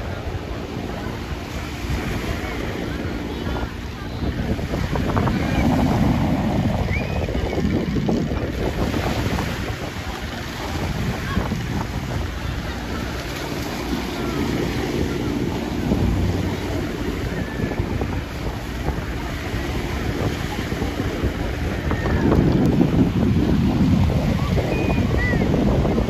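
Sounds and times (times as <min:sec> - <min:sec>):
small waves breaking on shore: 0:00.0 - 0:26.0
wind rumbling on microphone: 0:00.0 - 0:26.0.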